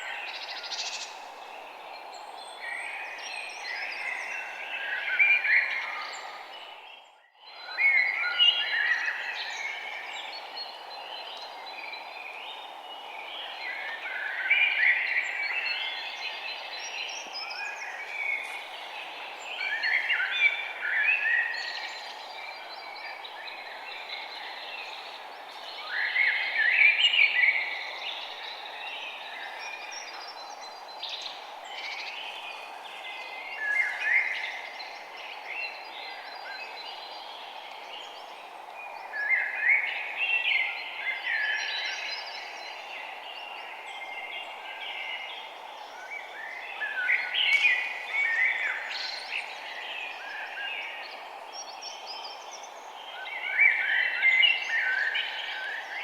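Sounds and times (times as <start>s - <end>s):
songbirds chirping and singing: 0.0s - 56.0s
steady background hiss: 0.0s - 56.0s.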